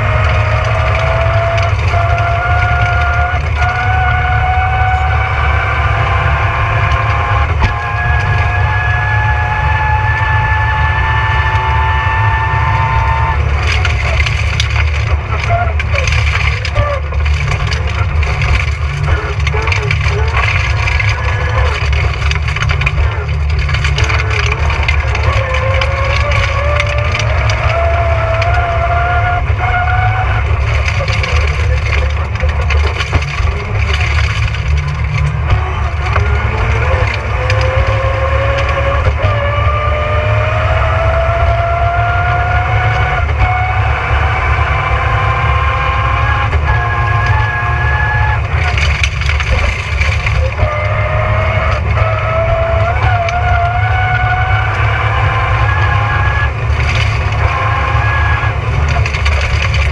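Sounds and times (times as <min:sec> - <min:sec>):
crackling noise from car: 0:00.0 - 0:59.9
rally car engine revving: 0:00.0 - 0:59.9.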